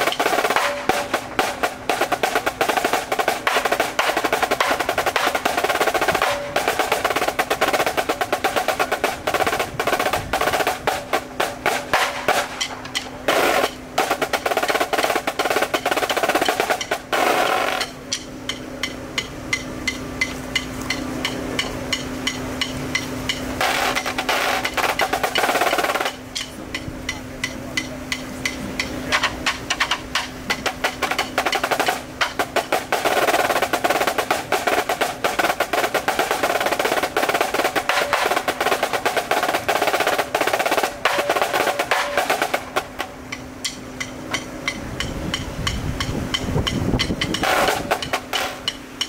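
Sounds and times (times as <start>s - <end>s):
snare drum rolls and strokes: 0.0s - 49.0s.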